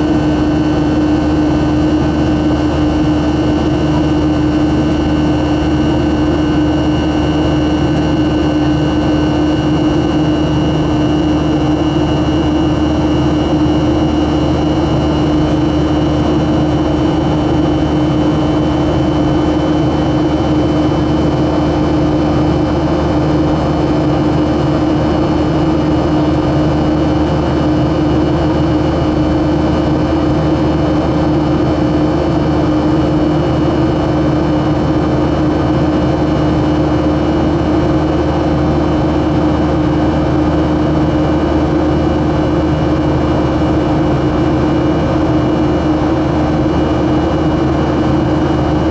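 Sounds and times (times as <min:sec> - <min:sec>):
jet engine drone in cabin: 0:00.0 - 0:48.9.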